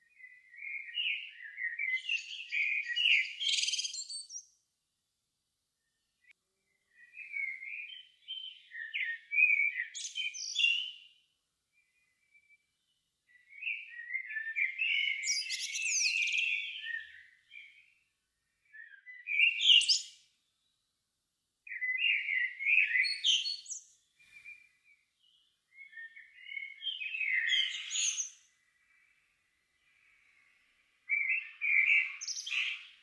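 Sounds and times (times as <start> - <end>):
songbird warbling and chirping: 0.2 - 4.6, 6.7 - 11.1, 11.8 - 18.0, 18.6 - 20.7, 21.7 - 33.0.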